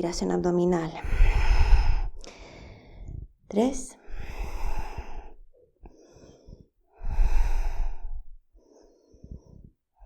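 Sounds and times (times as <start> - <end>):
person breathing deeply: 1.0 - 3.4, 4.0 - 10.0.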